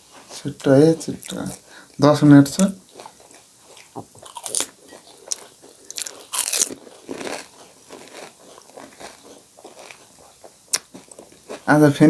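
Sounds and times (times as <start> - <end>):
crunchy food being chewed: 1.1 - 1.6, 2.6 - 12.0.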